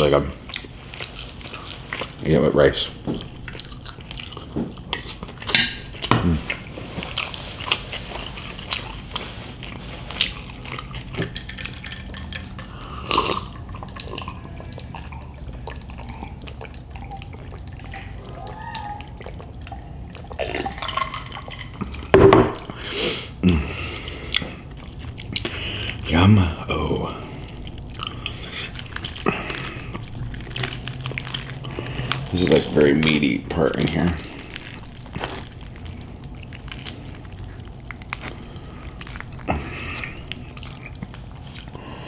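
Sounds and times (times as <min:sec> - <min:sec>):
wet chewing and mouth smacks: 0:00.3 - 0:02.3, 0:03.0 - 0:22.8, 0:24.0 - 0:26.2, 0:27.1 - 0:42.0.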